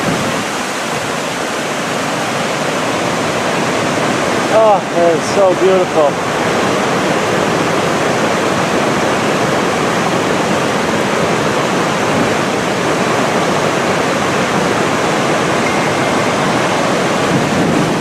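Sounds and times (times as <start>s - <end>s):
waterfall rushing loudly: 0.0s - 18.0s.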